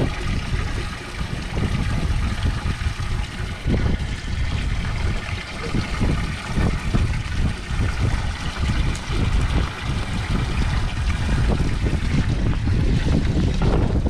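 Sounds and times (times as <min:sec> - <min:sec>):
water trickling and splashing: 0:00.0 - 0:14.0
wind buffeting microphone: 0:00.0 - 0:14.0.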